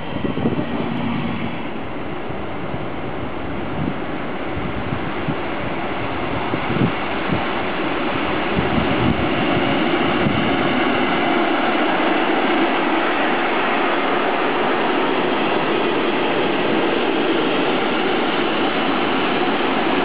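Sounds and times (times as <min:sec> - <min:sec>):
freight train wheels rolling: 0:00.0 - 0:20.0.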